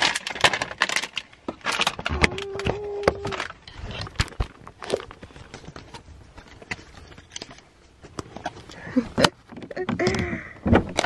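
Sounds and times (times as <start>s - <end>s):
packaging rustling and clicks: 0.0s - 10.2s.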